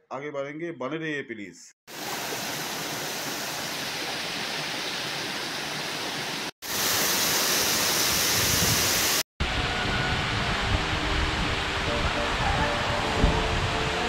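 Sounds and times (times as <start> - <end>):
stream and waterfall rushing: 1.9 - 14.0.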